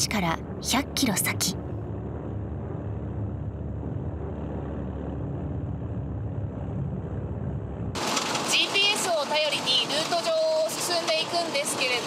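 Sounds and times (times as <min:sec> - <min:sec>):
tracked vehicle engine rumble: 0:00.0 - 0:12.0.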